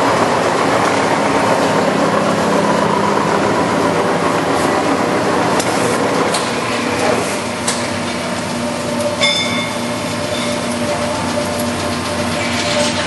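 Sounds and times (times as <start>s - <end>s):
lathe running: 0.0s - 13.0s.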